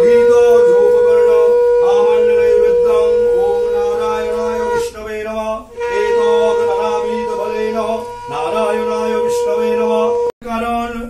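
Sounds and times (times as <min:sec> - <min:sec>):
conch shell blown: 0:00.0 - 0:10.4.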